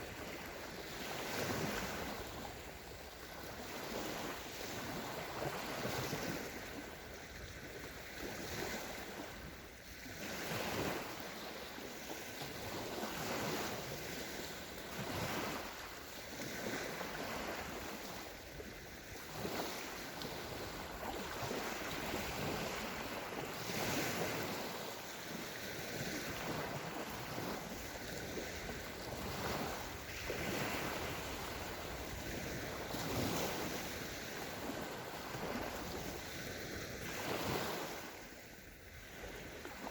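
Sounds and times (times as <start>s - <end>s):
waves breaking on sandy shore: 0.0s - 39.9s.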